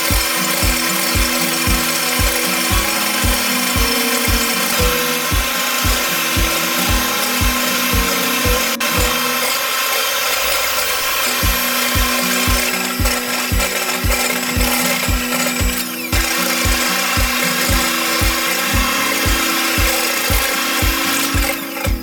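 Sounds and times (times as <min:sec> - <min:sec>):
background music with steady beat: 0:00.0 - 0:09.4, 0:11.2 - 0:22.0
electric hand mixer whipping: 0:00.0 - 0:22.0.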